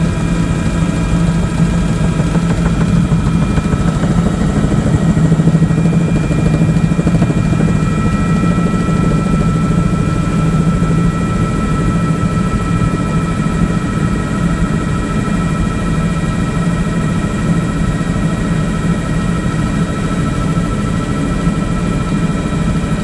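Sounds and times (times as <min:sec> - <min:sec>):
helicopter rotor and engine drone: 0:00.0 - 0:23.0.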